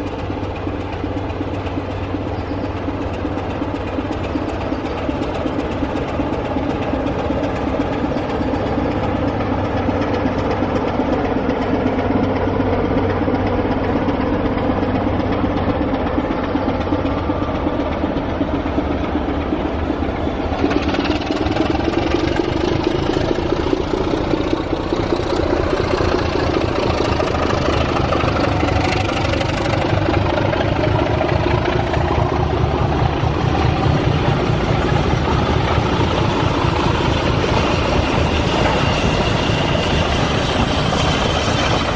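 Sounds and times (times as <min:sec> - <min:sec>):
diesel locomotive engine humming: 0:00.0 - 0:41.9.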